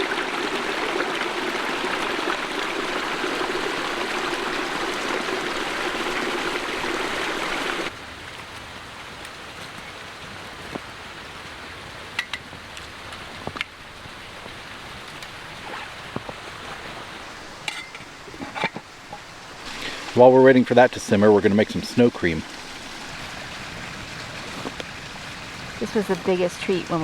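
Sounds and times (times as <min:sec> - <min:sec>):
creek water babbling: 0:00.0 - 0:27.0.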